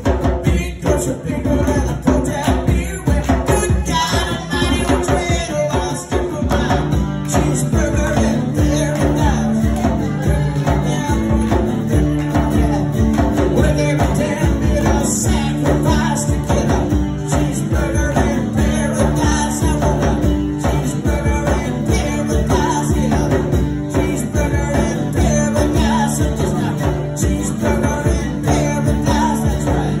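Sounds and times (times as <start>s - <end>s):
djembe hand drum: 0.0s - 30.0s
men singing: 0.0s - 30.0s
strummed acoustic guitar: 0.0s - 30.0s.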